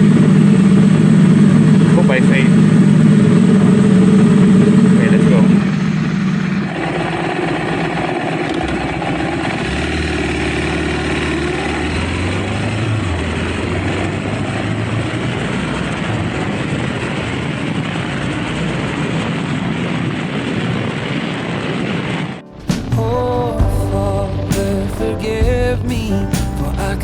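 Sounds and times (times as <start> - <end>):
motorcycle engine at speed: 0.0 - 22.1.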